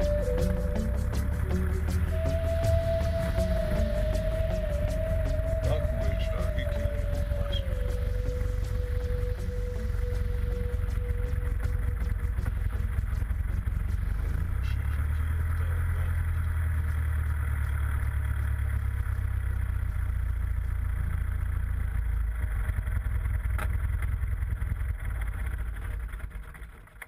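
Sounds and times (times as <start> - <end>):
light aircraft piston engine: 0.0 - 27.0.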